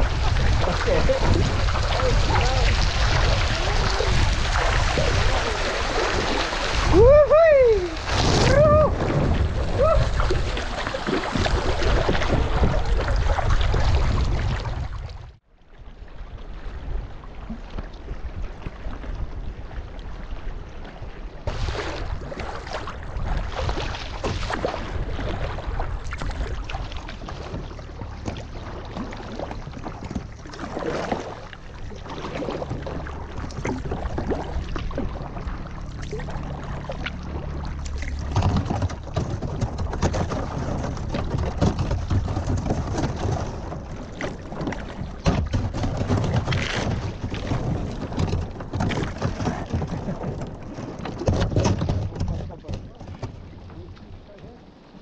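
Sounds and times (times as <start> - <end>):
paddle blades dipping: 0.0 - 15.4, 16.6 - 55.0
water splashing against hull: 0.0 - 55.0.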